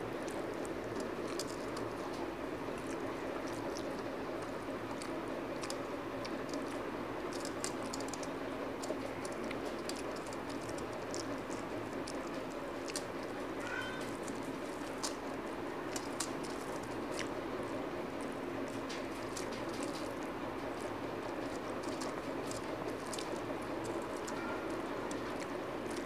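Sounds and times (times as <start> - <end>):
chewing and wet smacks: 0.0 - 26.0
steady low hum: 0.0 - 26.0.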